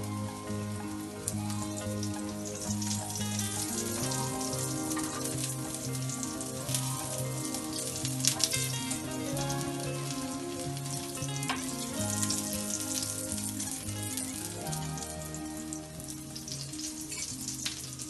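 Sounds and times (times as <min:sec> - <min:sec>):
background music with bass line: 0:00.0 - 0:18.0
patty sizzling in oil: 0:01.3 - 0:18.0.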